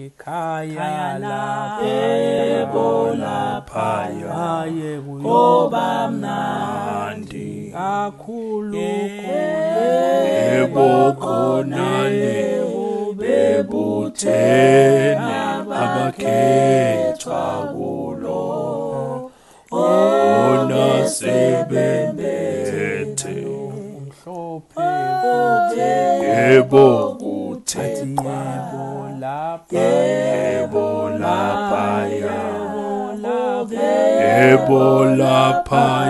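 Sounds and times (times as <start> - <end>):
a cappella male voices singing: 0.0 - 36.0.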